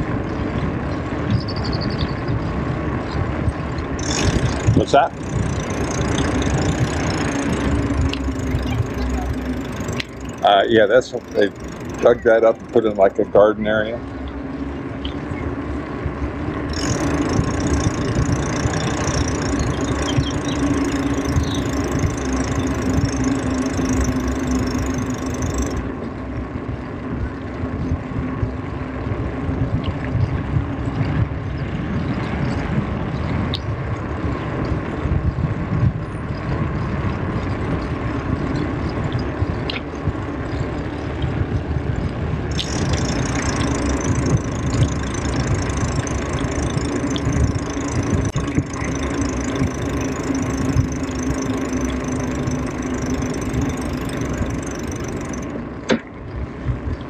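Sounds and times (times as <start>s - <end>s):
steady hum with high hiss: 0.0s - 57.0s
wind buffeting microphone: 0.0s - 57.0s.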